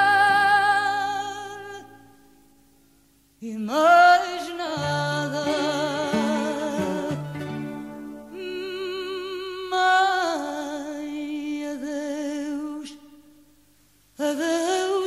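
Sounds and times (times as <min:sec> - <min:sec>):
person singing with vibrato: 0:00.0 - 0:02.3, 0:03.4 - 0:13.5, 0:14.1 - 0:15.0.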